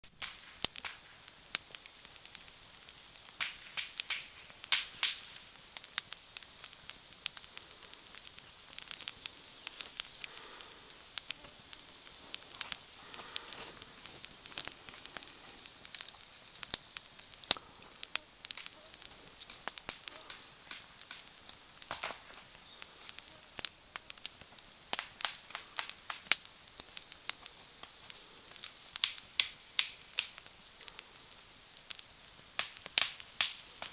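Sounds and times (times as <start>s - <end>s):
campfire crackling: 0.0s - 33.9s
soft hiss: 0.1s - 33.9s.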